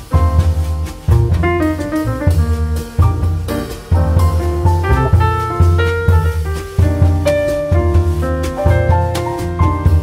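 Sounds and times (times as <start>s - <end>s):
drum kit: 0.0s - 10.0s
piano: 0.0s - 10.0s
plucked bass line: 0.0s - 10.0s.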